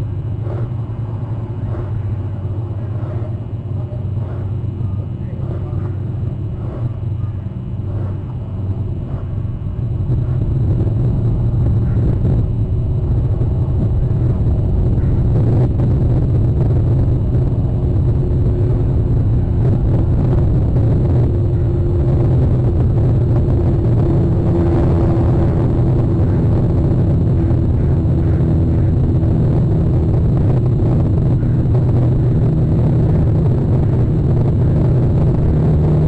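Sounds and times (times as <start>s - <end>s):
low engine rumble: 0.0s - 36.0s.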